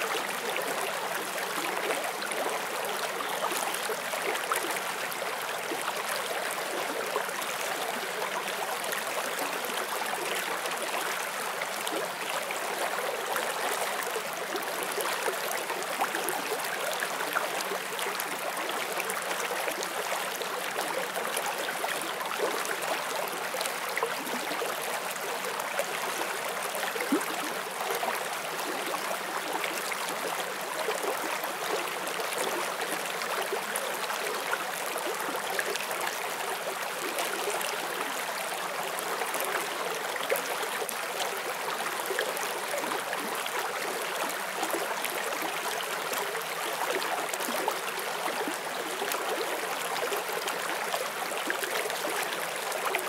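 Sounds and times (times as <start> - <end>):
stream babbling over stones: 0.0 - 53.0.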